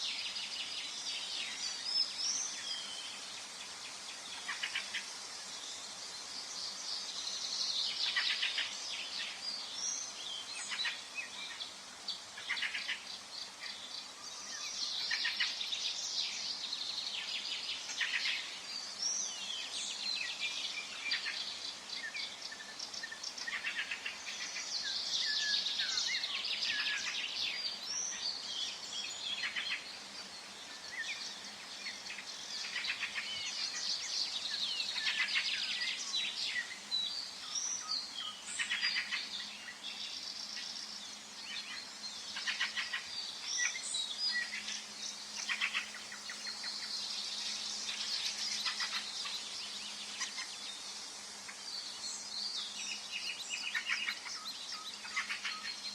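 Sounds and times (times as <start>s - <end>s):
songbirds chirping and trilling: 0.0s - 55.9s
steady background hiss: 0.0s - 55.9s.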